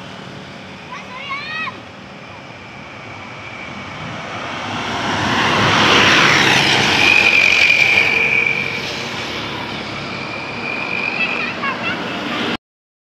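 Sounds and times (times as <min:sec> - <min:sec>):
bus passing by: 0:00.0 - 0:12.6
steady high tone: 0:00.0 - 0:12.6.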